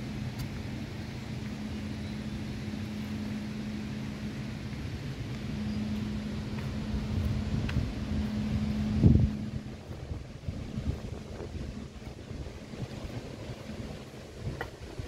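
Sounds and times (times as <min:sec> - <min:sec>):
power station low hum: 0:00.0 - 0:15.0
rushing water noise: 0:00.0 - 0:15.0.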